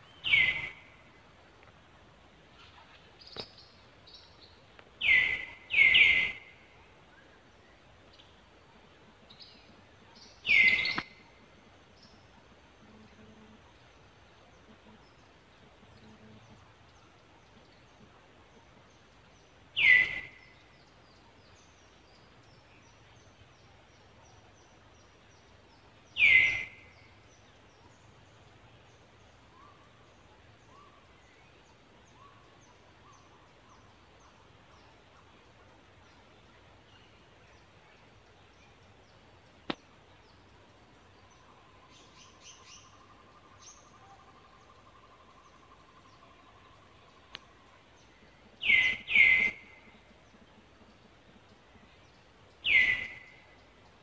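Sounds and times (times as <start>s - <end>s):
faint bird chirping: 0.0s - 54.0s.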